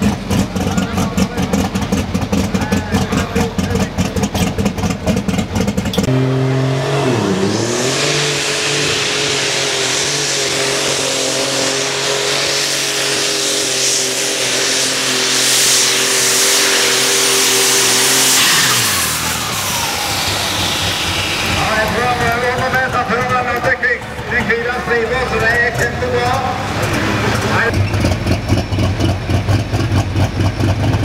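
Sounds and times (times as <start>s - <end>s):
tractor engine revving: 0.0s - 31.0s.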